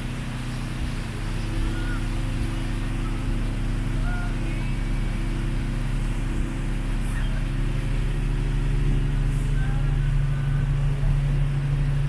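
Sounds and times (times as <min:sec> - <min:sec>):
boat motor droning: 0:00.0 - 0:12.0.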